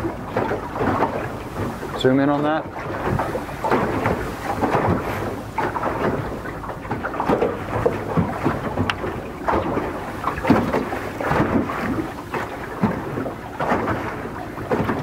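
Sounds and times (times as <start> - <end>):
water lapping against boat: 0.0 - 15.0
wind buffeting microphone: 0.0 - 15.0.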